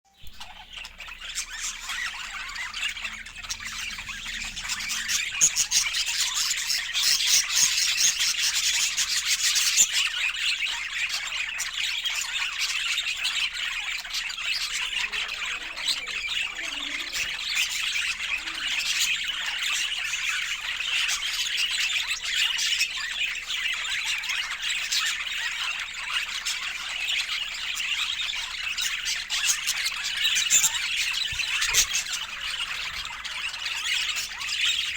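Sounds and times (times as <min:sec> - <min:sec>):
budgerigars chattering: 0:00.2 - 0:34.9.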